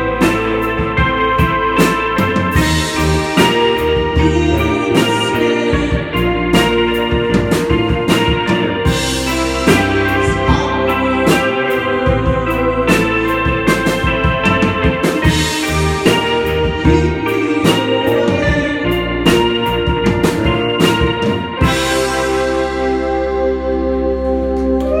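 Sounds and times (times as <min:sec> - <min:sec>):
sustained keyboard chords: 0:00.0 - 0:25.0.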